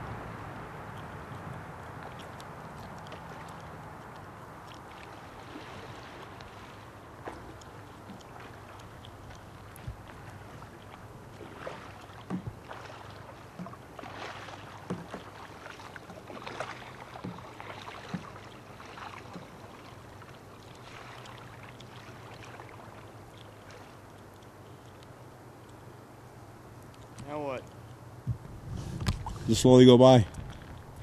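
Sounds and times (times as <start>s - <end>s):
paddle splashing in water: 0.0s - 25.2s, 28.3s - 29.6s.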